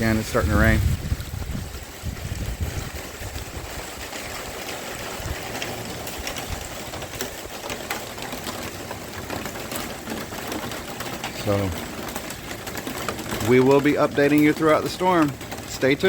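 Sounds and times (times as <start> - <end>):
light rain hiss: 0.0 - 16.0
raindrops ticking: 0.0 - 16.0.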